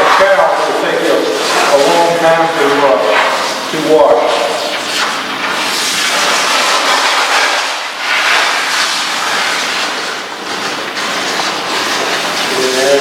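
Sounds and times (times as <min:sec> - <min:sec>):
water spray hissing: 0:00.6 - 0:13.0.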